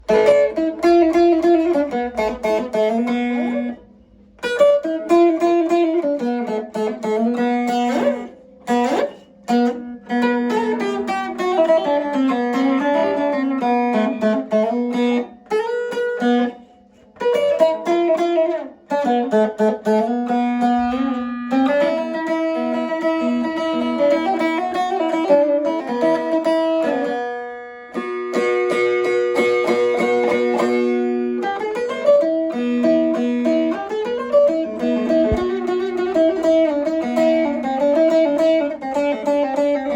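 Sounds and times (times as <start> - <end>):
plucked long-necked lute: 0.0 - 39.9.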